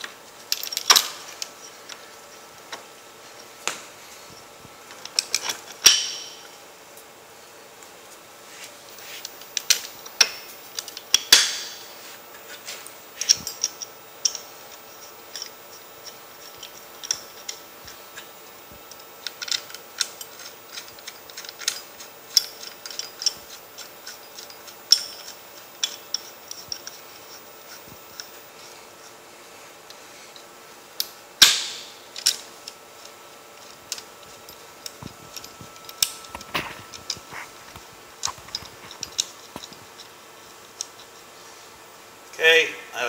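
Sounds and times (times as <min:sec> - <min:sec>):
metal parts clicking and clinking: 0:00.4 - 0:02.4, 0:04.9 - 0:06.5, 0:08.9 - 0:28.5, 0:29.9 - 0:41.2.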